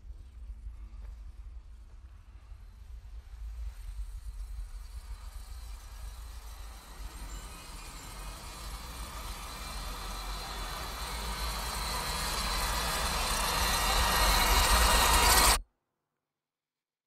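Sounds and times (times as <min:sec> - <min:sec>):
low rumbling drone: 0:00.0 - 0:15.6.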